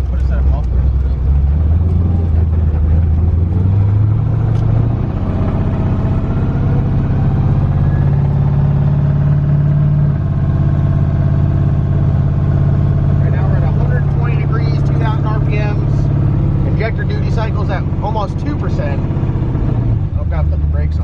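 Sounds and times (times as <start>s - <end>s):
loud low car exhaust drone: 0.0s - 21.0s.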